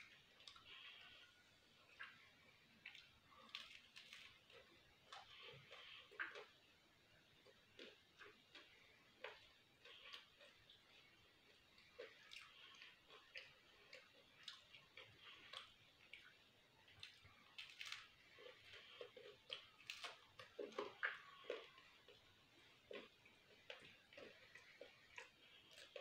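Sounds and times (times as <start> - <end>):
chewing pizza: 0.0 - 26.0
biting food: 1.9 - 6.6, 7.3 - 26.0.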